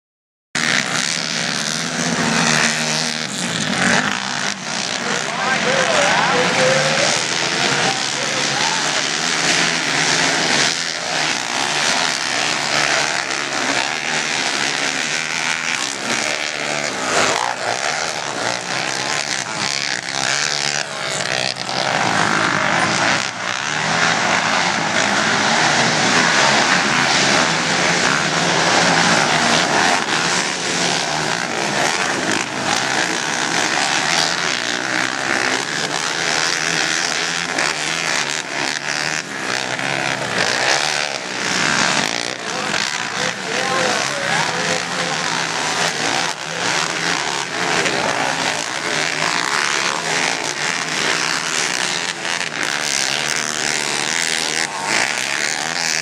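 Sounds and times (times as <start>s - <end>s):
racing quad engines revving: 0.6s - 56.0s.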